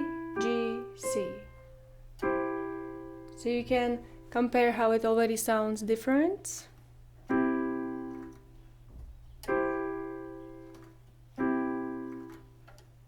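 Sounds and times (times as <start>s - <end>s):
piano chord ringing: 0.0s - 5.2s, 7.3s - 12.5s.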